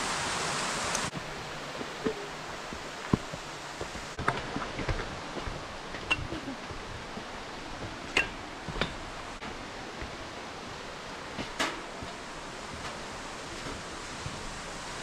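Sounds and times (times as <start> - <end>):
distant flowing water: 0.0 - 15.0.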